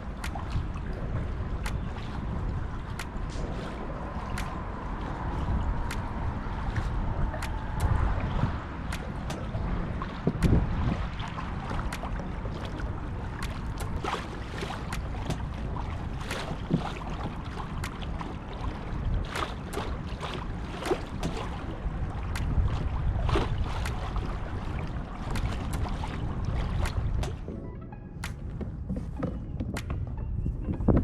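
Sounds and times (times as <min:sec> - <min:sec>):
water lapping against a hull: 0:00.0 - 0:31.0
wind rumbling on microphone: 0:00.0 - 0:31.0.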